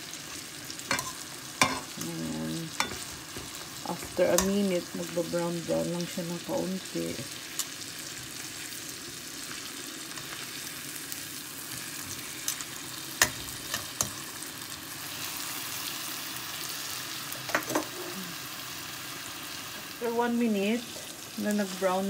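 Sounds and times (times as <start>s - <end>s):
liver sizzling in a pan: 0.0s - 22.0s.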